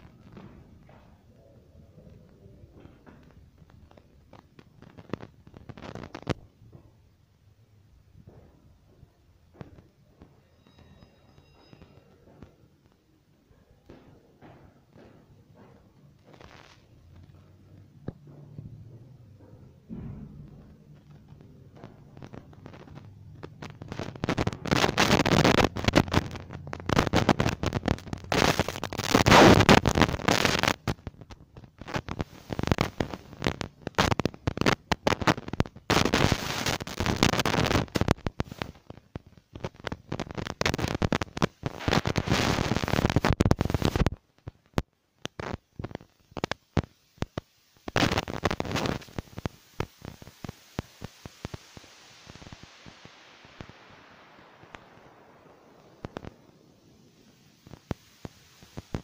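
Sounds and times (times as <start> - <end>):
phone microphone handling crackle: 2.7 - 7.0, 8.2 - 59.0.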